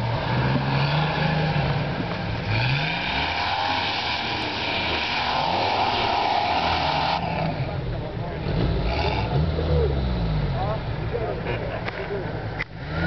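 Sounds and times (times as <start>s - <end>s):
car engine revving hard: 0.0s - 10.5s.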